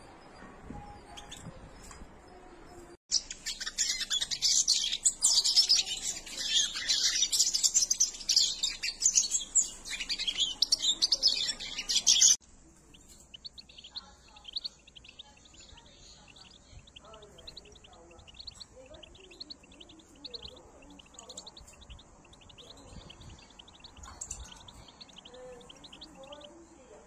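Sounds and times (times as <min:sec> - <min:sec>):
goldfinches chirping and twittering: 0:03.1 - 0:27.0.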